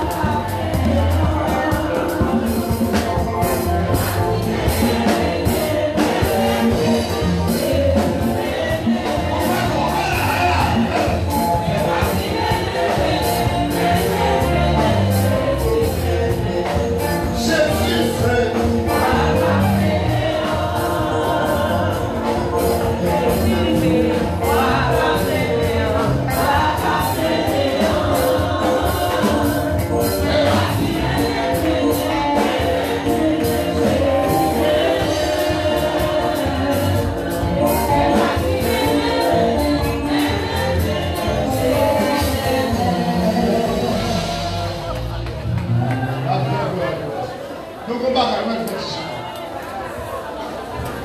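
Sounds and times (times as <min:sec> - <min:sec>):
band with fast percussion: 0:00.0 - 0:47.2
lead singer on microphone: 0:00.0 - 0:49.4
congregation singing: 0:00.0 - 0:51.0.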